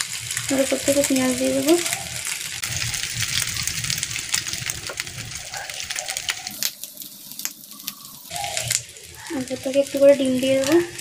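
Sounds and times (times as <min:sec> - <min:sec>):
bread sizzling with crackling pops: 0:00.0 - 0:11.0.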